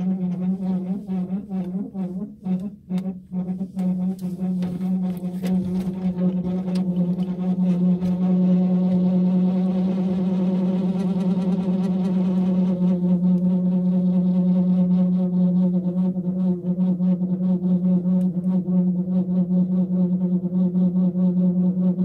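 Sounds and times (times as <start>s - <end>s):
low droning tone: 0.0s - 22.0s.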